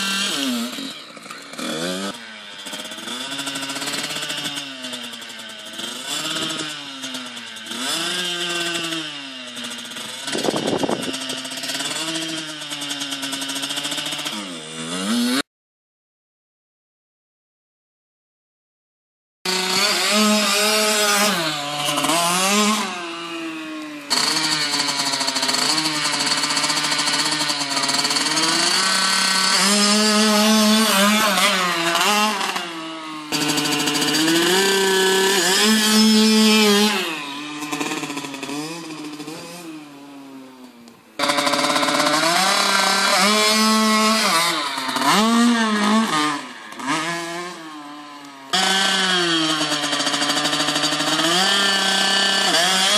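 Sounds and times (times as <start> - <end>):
motocross bike engine revving: 0.0 - 15.5, 19.5 - 52.9.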